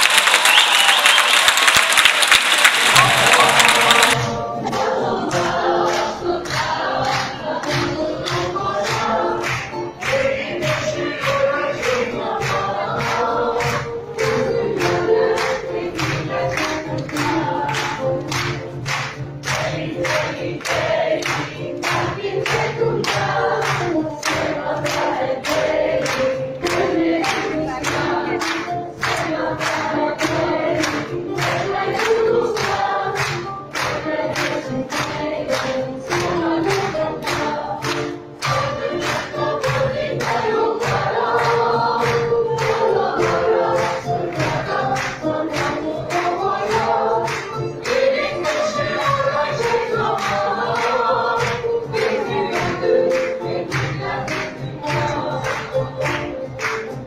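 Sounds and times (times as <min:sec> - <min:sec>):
audience clapping along: 0:00.0 - 0:57.0
choir singing with instruments: 0:00.0 - 0:57.0.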